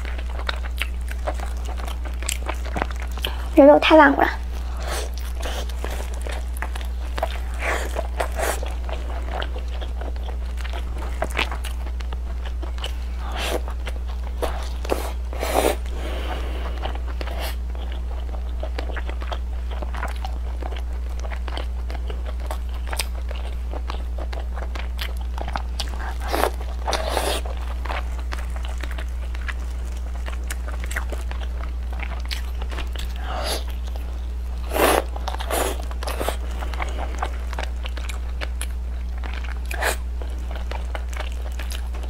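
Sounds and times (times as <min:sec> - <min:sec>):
person chewing food: 0:00.0 - 0:03.6, 0:04.4 - 0:42.0
low hum: 0:00.0 - 0:42.0.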